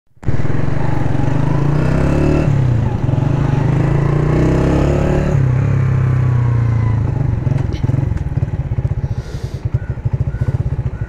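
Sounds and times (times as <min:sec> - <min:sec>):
motorcycle engine riding: 0:00.2 - 0:11.0.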